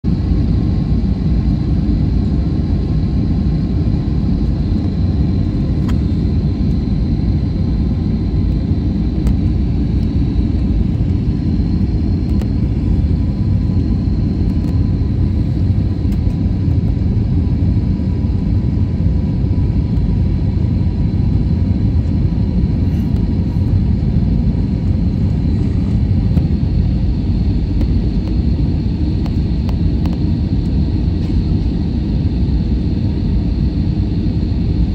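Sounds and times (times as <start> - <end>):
airliner engines rumbling: 0.0 - 34.9
faint high whine: 0.1 - 34.9.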